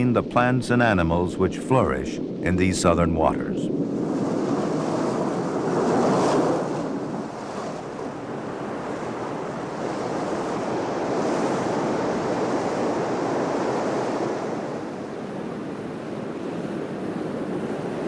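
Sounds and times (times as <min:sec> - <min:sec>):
ocean surf breaking: 0:00.0 - 0:18.0
wind: 0:00.0 - 0:18.0.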